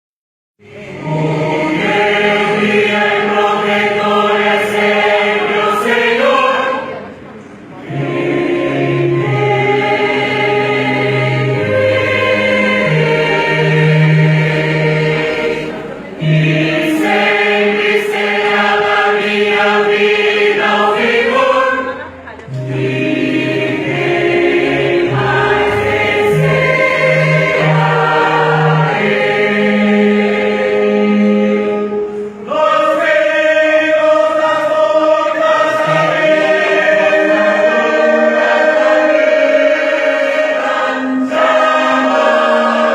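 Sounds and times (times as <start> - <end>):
choir singing a hymn: 0.6 - 42.9.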